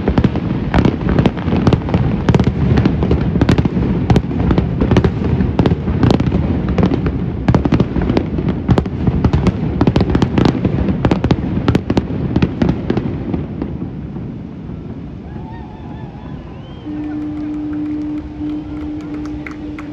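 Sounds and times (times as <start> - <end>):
fireworks bangs and crackles: 0.0 - 15.3, 16.9 - 19.9.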